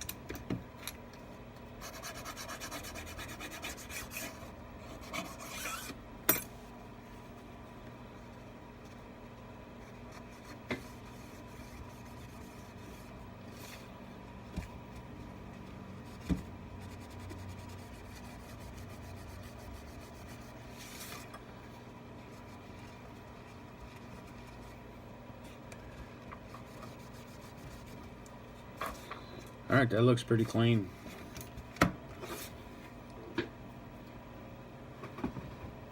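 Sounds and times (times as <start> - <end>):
steady background hum: 0.0 - 35.9.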